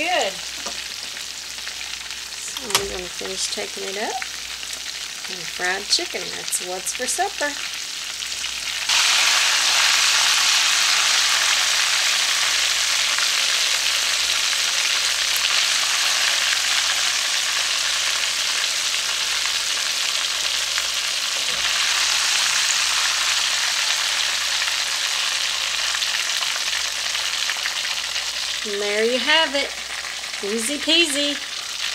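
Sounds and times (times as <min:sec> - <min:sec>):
chicken frying in oil: 0:00.0 - 0:31.9.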